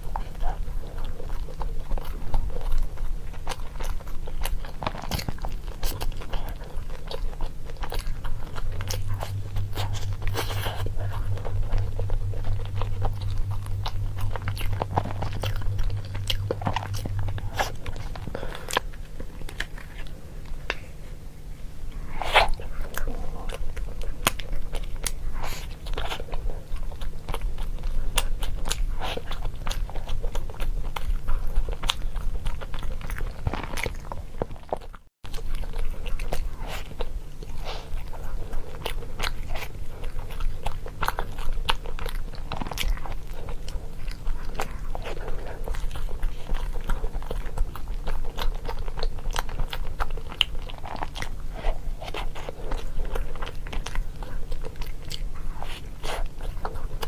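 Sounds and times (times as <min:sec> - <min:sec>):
chewing crunchy food: 0:00.0 - 0:57.0
steady low hum: 0:00.0 - 0:57.0.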